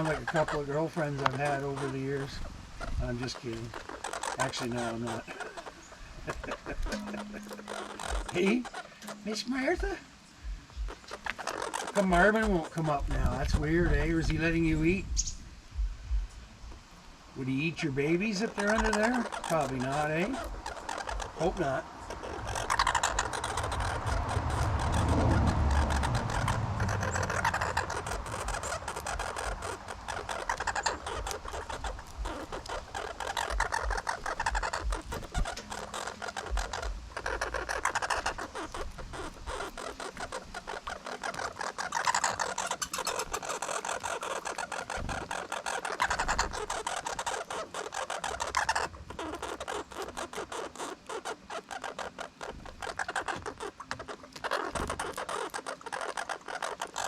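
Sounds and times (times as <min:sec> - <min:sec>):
squirrel clicking and crunching: 0:00.0 - 0:15.4, 0:16.7 - 0:57.0.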